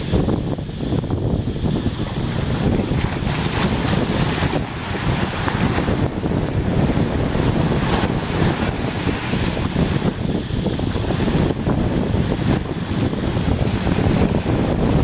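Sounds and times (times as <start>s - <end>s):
waves breaking on beach: 0.0s - 15.0s
wind buffeting microphone: 0.0s - 15.0s.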